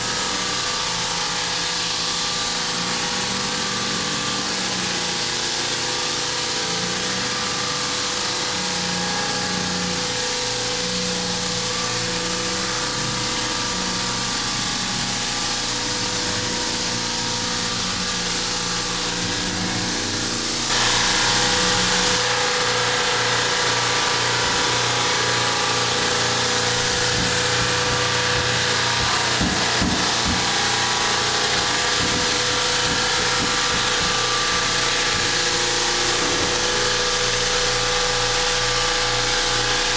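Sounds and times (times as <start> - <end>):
floor sanding machine running: 0.0 - 39.9.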